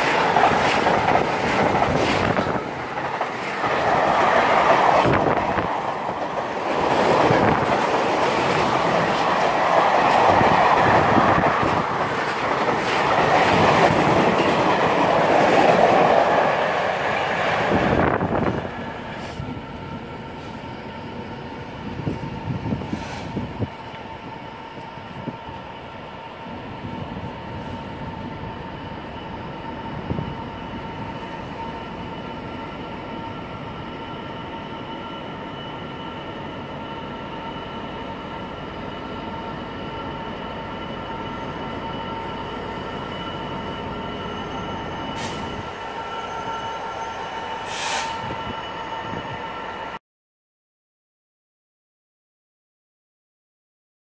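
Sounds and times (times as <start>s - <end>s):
freight locomotive rumbling: 0.0s - 50.0s.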